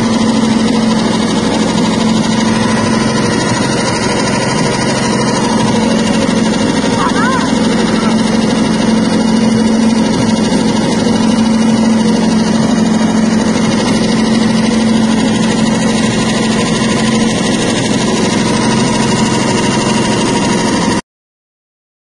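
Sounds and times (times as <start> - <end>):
dehulling machine humming: 0.0 - 21.0.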